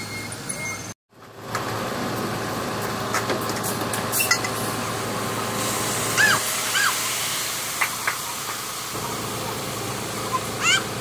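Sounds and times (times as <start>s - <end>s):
concrete truck running: 0.1s - 11.0s.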